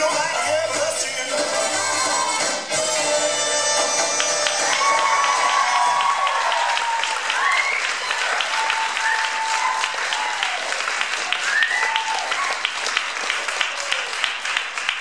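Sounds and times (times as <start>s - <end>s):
people cheering: 1.3s - 15.0s
audience applauding: 2.0s - 15.0s.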